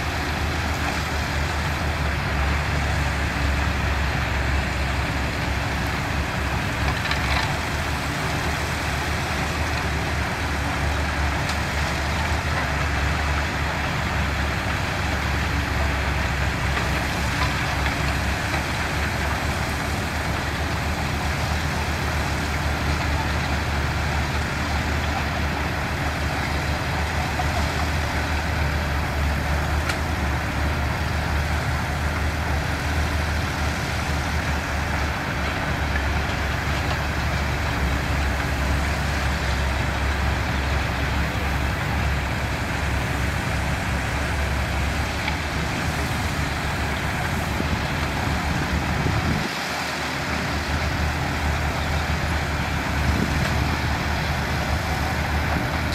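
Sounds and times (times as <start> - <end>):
construction machinery diesel engines: 0.0 - 55.9.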